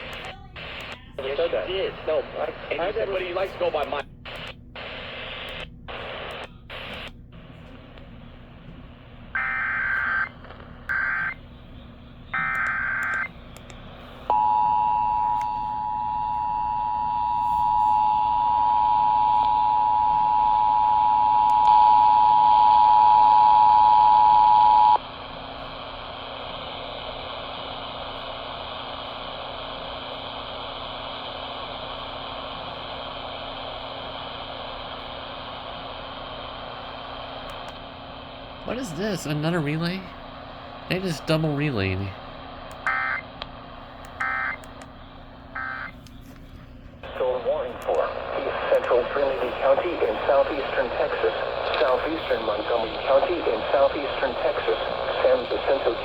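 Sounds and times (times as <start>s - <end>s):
radio hiss: 0.0s - 14.4s, 24.3s - 46.1s, 47.0s - 56.0s.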